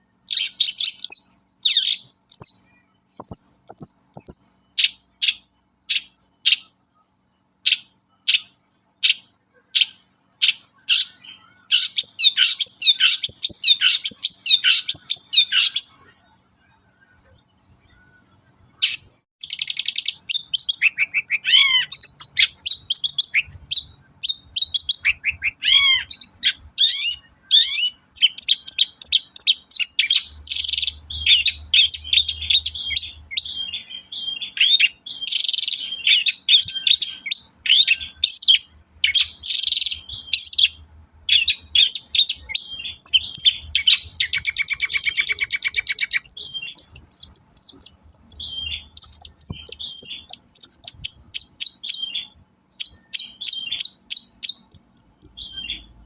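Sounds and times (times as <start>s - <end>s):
bird singing chirps and whistles: 0.2s - 6.7s, 7.6s - 17.2s, 17.8s - 56.0s.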